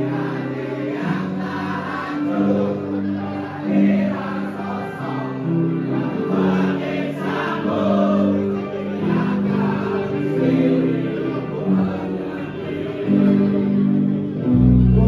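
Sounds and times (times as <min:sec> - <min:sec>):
group singing held notes: 0:00.0 - 0:15.0.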